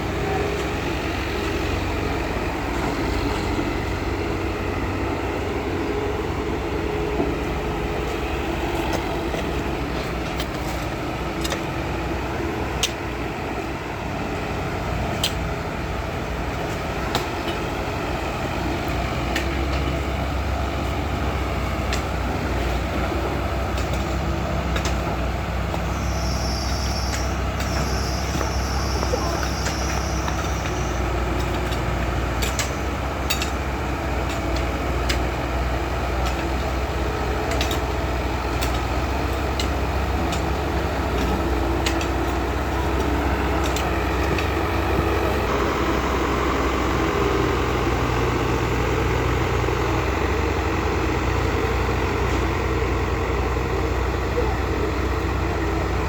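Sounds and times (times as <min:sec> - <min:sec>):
compactor roller engine humming: 0:00.0 - 0:56.0.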